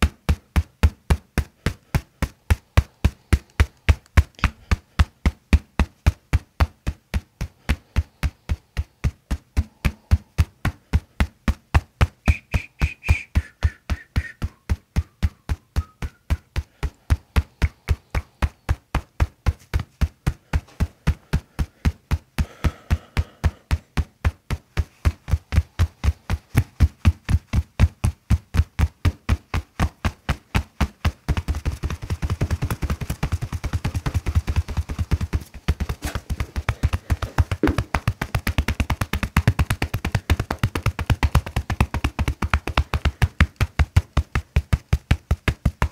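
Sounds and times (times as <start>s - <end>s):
hands slapping a back: 0.0s - 45.9s.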